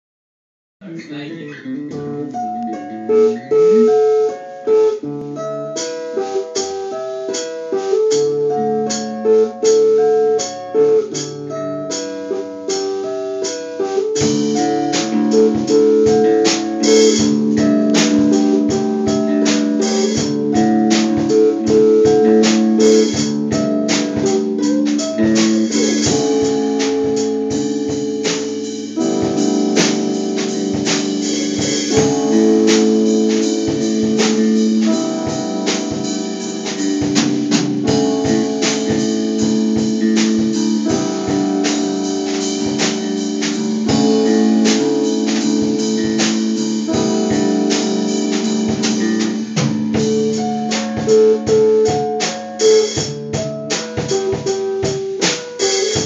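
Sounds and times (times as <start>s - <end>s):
live band playing: 0.8s - 4.4s, 5.5s - 56.0s
amplified chords: 0.8s - 56.0s
drum kit: 0.9s - 56.0s.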